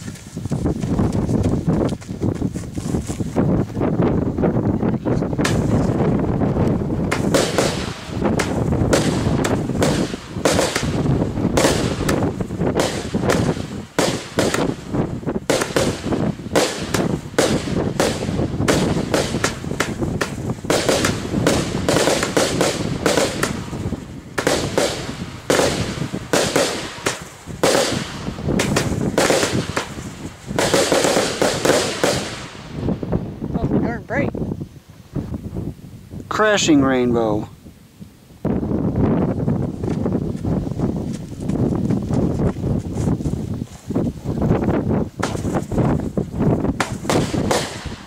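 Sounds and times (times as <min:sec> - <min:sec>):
fireworks crackling pops and bangs: 0:00.0 - 0:33.2, 0:38.4 - 0:48.0.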